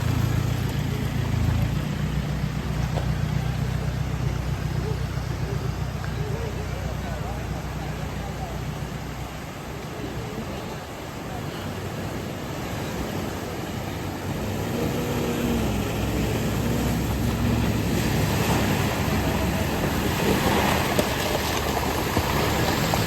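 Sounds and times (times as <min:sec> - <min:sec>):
waterfall stream rushing: 0:00.0 - 0:23.0.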